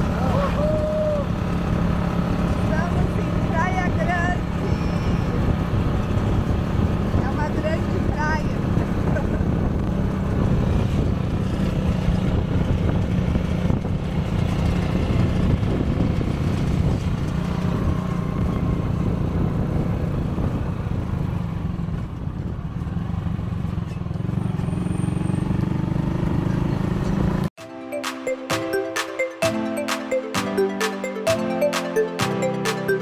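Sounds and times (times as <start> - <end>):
road and wind noise: 0.0 - 27.6.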